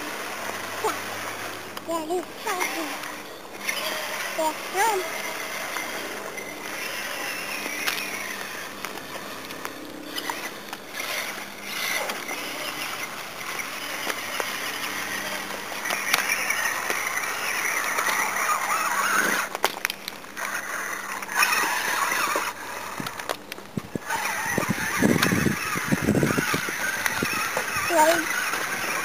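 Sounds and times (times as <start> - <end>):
rc truck electric motor: 0.0 - 29.0.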